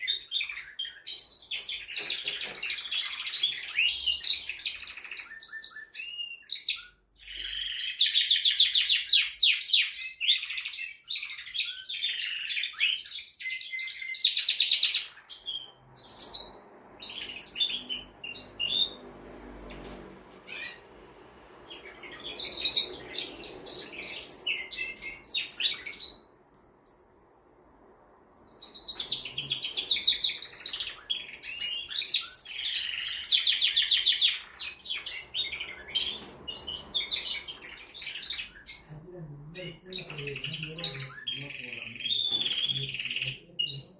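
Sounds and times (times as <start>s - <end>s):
canary singing trills: 0.0s - 26.4s, 28.4s - 43.9s.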